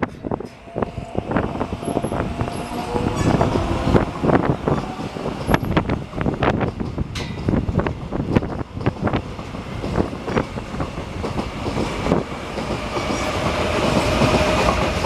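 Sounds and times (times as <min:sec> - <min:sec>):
train wheels clacking: 0:00.0 - 0:15.0
wind on microphone: 0:00.0 - 0:15.0.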